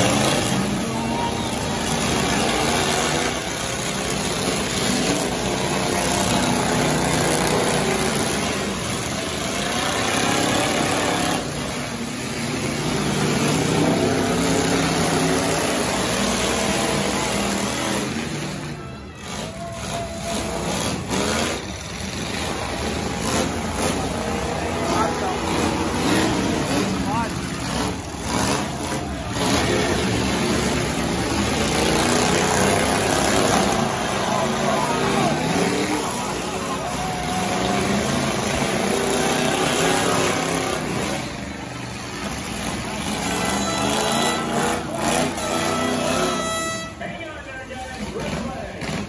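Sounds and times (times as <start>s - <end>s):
truck engines revving: 0.0s - 49.0s.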